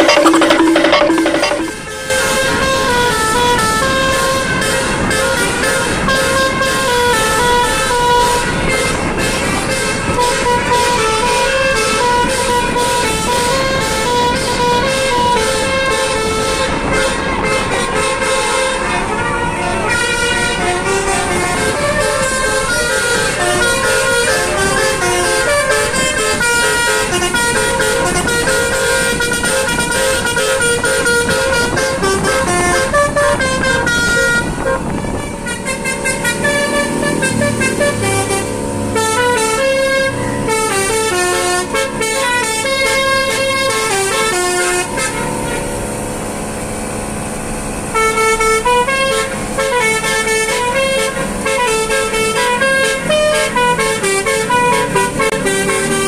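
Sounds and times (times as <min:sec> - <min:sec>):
multi-tone car horns melody: 0:00.0 - 0:56.0.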